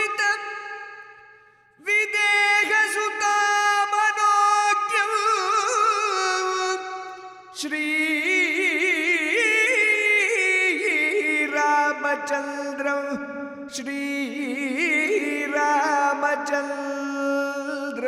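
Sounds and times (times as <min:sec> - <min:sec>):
person singing devotional song: 0:00.0 - 0:18.0.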